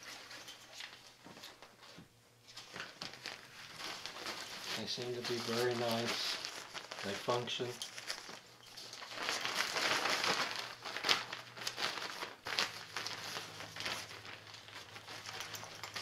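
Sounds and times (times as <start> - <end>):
stuff sack crinkling and rustling: 0.0 - 16.0.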